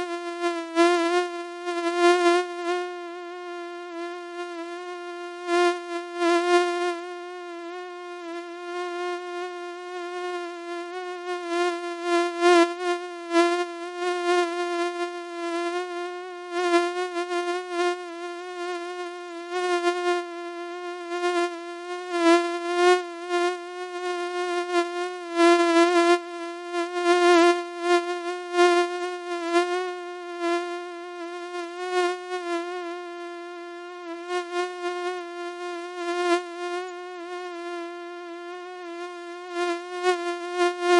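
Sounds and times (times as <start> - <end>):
mosquito whine: 0.0 - 40.9.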